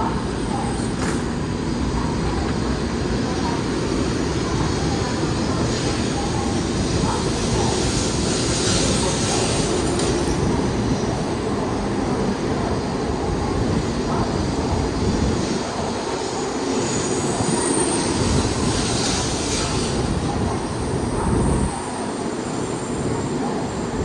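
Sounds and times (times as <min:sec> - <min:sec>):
bullet train rushing past: 0:00.0 - 0:24.0.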